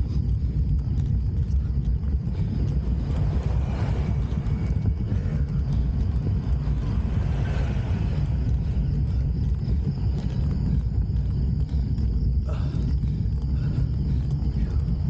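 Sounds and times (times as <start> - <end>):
road noise: 0.0 - 12.1
wind rumble on microphone: 0.0 - 15.0.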